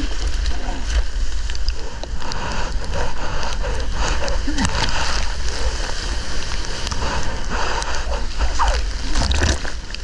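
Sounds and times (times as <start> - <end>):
sea water splashing: 0.0 - 10.0
steady low rumble: 0.0 - 10.0.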